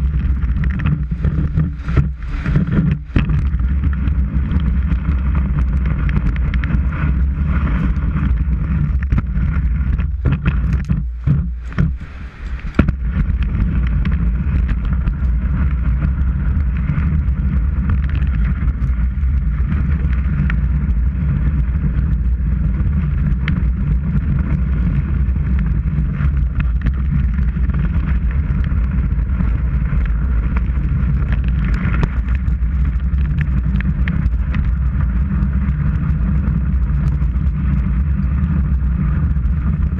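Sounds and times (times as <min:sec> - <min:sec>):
skis running over snow: 0:00.0 - 0:39.9
wind buffeting: 0:00.0 - 0:39.9.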